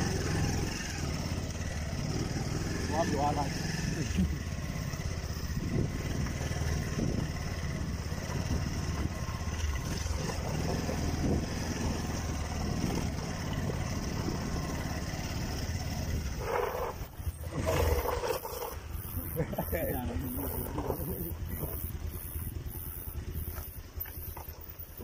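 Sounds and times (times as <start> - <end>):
motorcycle engines rumbling: 0.0 - 25.0.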